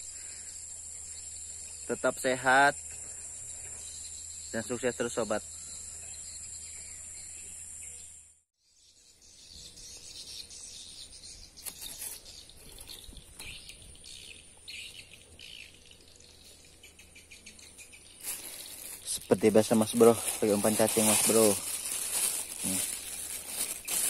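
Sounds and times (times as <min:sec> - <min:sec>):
high insect drone: 0:00.0 - 0:08.3, 0:09.8 - 0:24.0
bird and insect chirps: 0:00.0 - 0:24.0.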